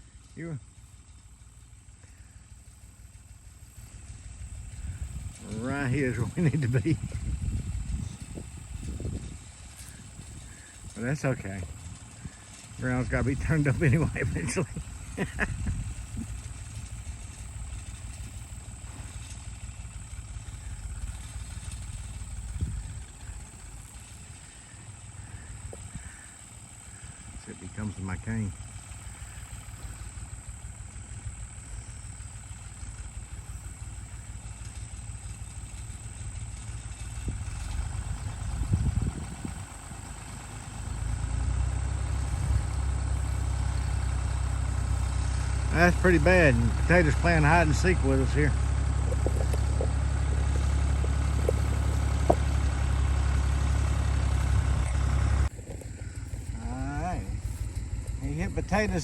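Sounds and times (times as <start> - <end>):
tractor engine rumbling: 0.0 - 59.0.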